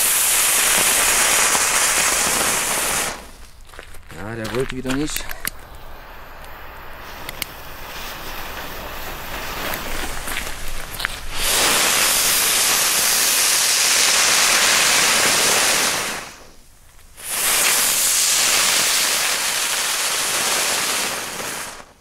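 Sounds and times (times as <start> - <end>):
firework spinners hissing: 0.0 - 22.0.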